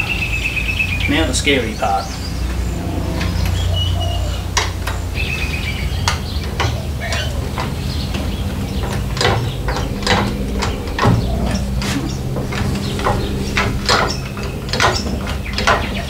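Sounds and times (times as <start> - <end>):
birds chirping: 0.0 - 16.0
low hum: 0.0 - 16.0.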